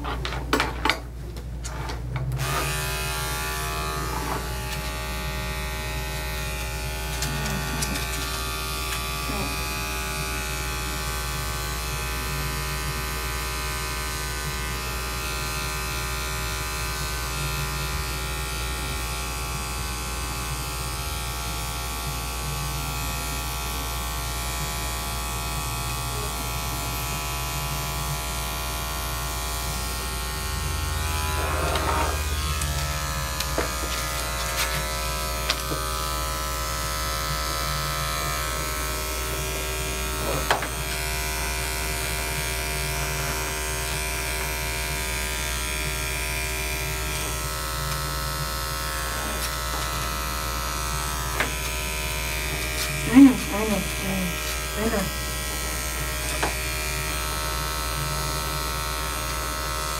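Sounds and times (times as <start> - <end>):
electric hair clipper buzzing: 2.3 - 59.9.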